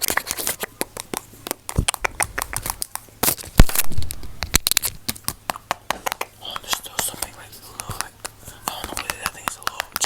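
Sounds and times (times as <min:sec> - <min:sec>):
sharp clicks and taps: 0:00.0 - 0:10.0.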